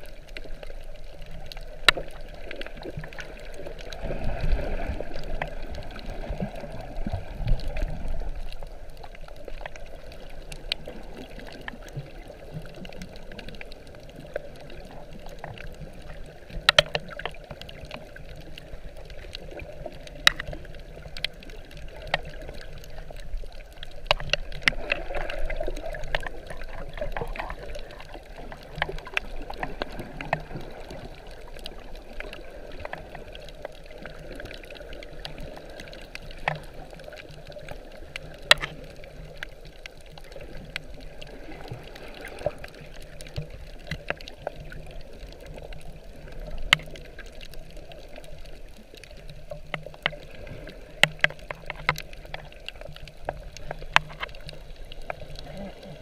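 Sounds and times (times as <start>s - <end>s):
underwater sloshing water: 0.0s - 56.0s.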